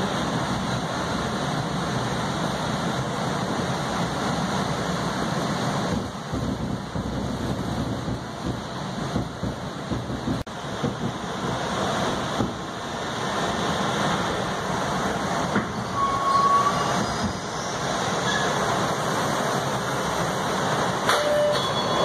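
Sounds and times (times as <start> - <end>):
subway wheels rumbling on rail: 0.0 - 22.0.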